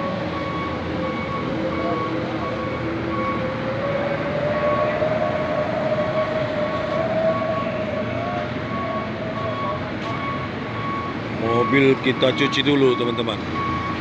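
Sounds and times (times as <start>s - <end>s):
diesel coach idling: 0.0s - 14.0s.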